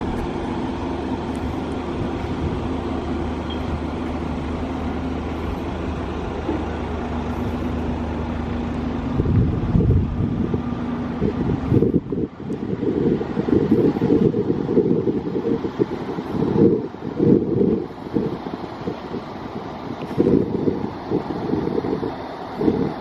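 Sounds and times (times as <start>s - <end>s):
low mechanical hum: 0.0s - 23.0s
wind buffeting microphone: 0.0s - 23.0s.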